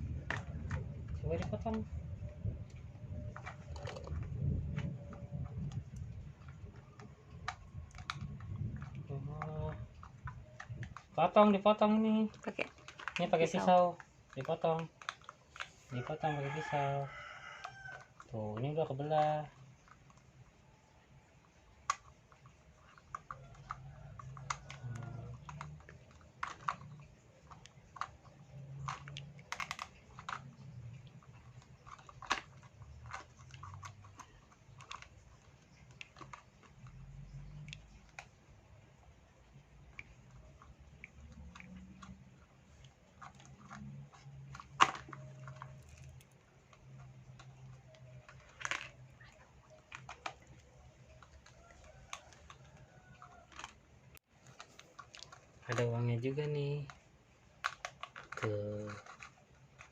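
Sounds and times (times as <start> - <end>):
plastic toy pieces clicking: 2.6 - 59.9.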